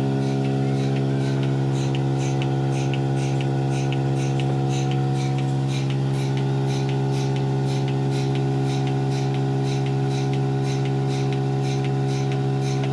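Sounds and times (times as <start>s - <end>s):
fast light ticking: 0.0s - 12.9s
steady machine hum: 0.0s - 12.9s.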